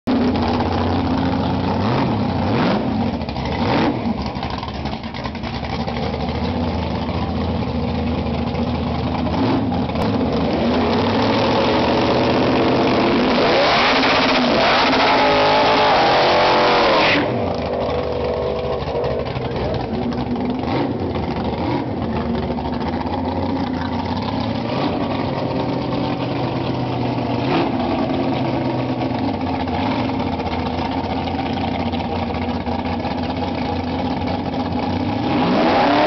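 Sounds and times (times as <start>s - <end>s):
race car engine revving: 0.1s - 36.0s.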